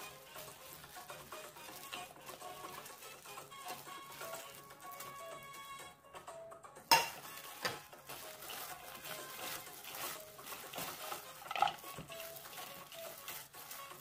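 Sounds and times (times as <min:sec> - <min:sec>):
vegetables rustling in a bowl: 0:00.0 - 0:05.7, 0:06.9 - 0:14.0
faint background music: 0:00.0 - 0:14.0.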